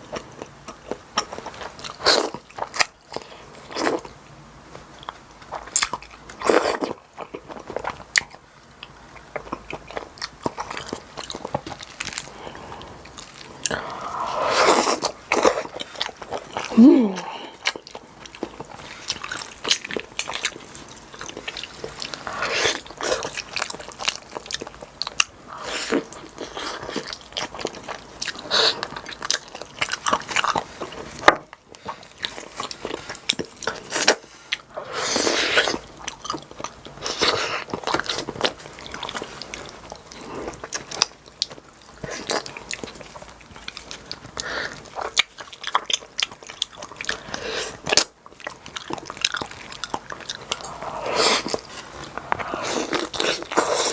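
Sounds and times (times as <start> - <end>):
close chewing and biting: 0.0 - 4.2, 4.8 - 53.9.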